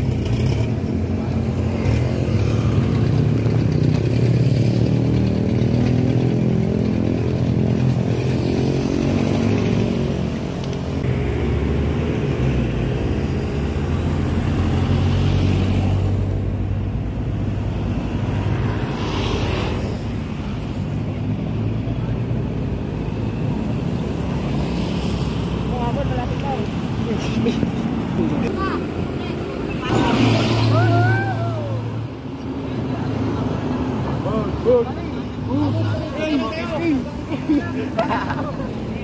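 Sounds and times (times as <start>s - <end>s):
traffic engines humming: 0.0s - 39.0s
vehicles passing close by: 0.0s - 39.0s.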